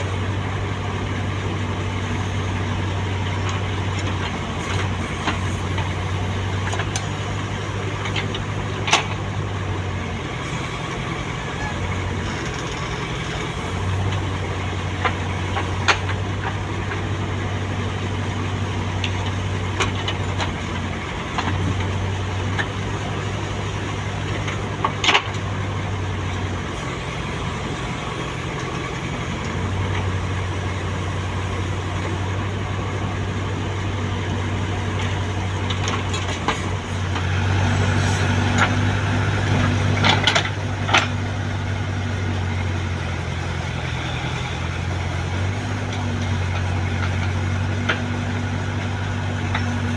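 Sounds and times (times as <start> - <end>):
heavy diesel engines running: 0.0 - 49.9.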